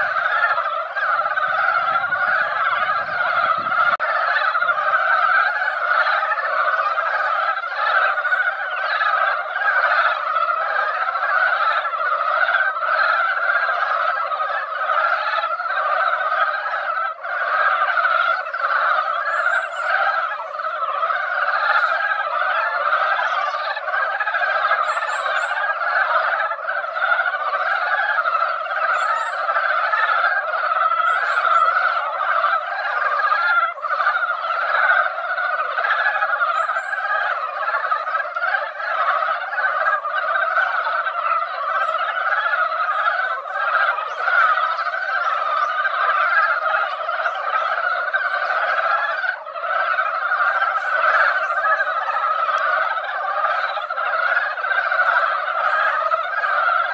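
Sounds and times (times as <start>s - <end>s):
frog chorus croaking: 0.0s - 56.9s.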